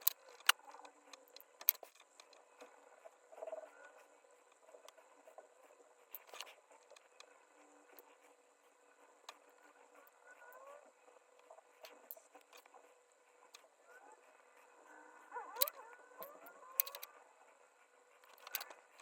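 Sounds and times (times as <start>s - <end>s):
soft scratchy sounds: 0.0s - 19.0s.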